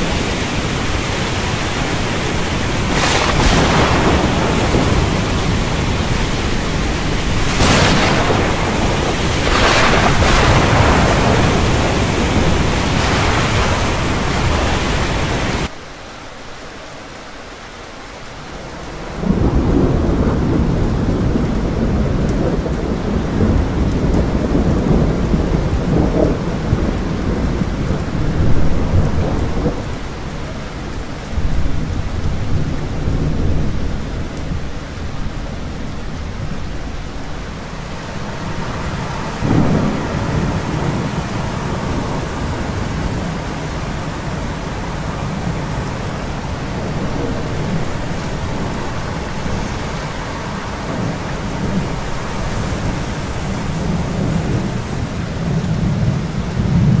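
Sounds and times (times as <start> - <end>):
thunder rumbling: 0.0 - 15.7, 19.1 - 57.0
heavy rain hissing: 0.0 - 57.0.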